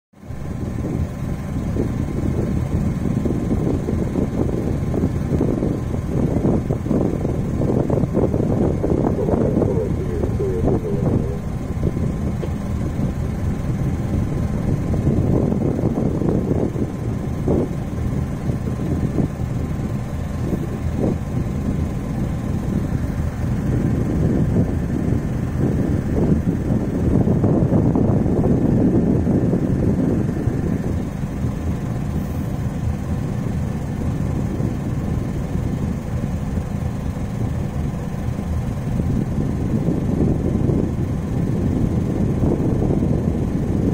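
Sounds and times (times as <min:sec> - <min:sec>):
low engine rumble: 0:00.2 - 0:43.9
wind buffeting microphone: 0:00.2 - 0:43.9
faint constant hum: 0:00.4 - 0:43.9.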